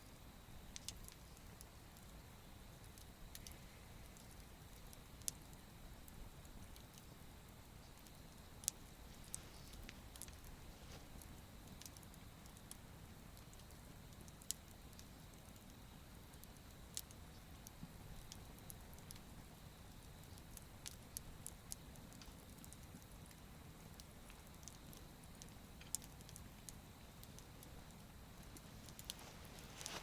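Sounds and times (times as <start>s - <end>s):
wood fire crackling and popping: 0.1s - 30.0s.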